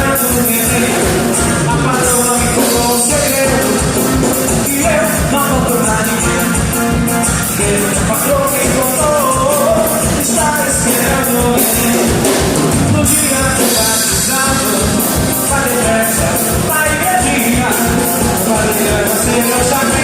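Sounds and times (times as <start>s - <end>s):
drum beat: 0.0s - 20.0s
lead singer singing: 0.0s - 20.0s
upbeat band music: 0.0s - 20.0s.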